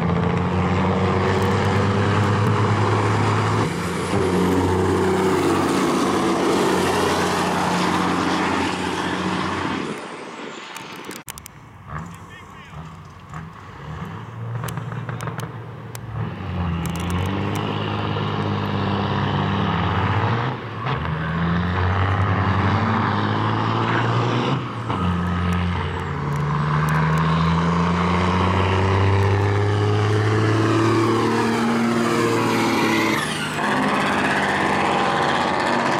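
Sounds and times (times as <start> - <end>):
truck diesel engines revving: 0.0 - 35.9.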